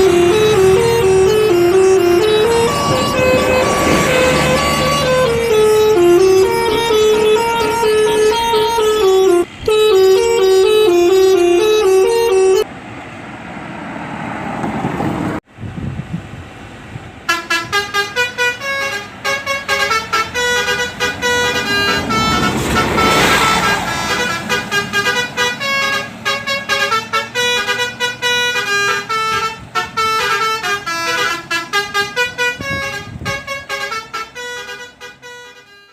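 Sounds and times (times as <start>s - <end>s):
bus musical horn tune: 0.0s - 12.7s, 17.3s - 35.9s
road noise of passing bus: 0.0s - 35.9s.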